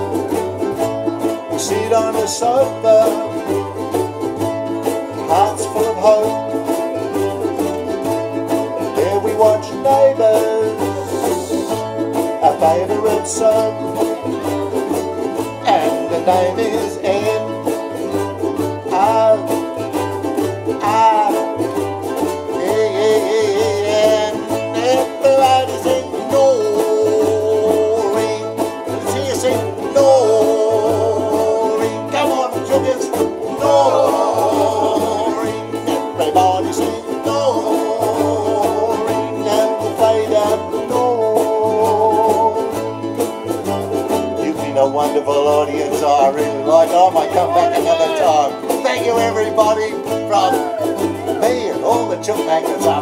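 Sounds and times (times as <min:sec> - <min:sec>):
repeating bass line: 0:00.0 - 0:53.0
ukulele group strumming: 0:00.0 - 0:53.0.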